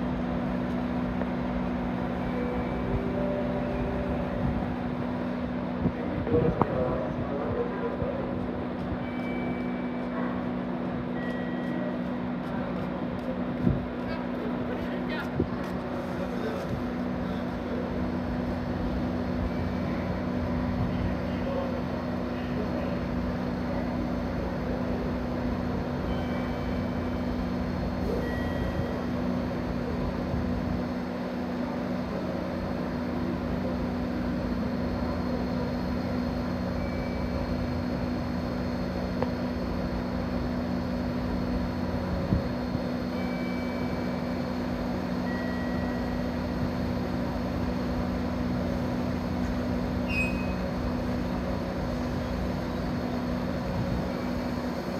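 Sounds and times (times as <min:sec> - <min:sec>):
train equipment humming: 0:00.0 - 0:54.9.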